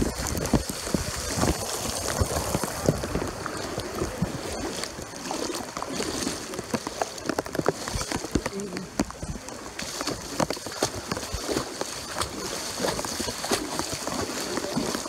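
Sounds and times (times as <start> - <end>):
floodwater rushing: 0.0 - 15.0
heavy rain: 0.0 - 15.0
water splashing: 0.0 - 15.0.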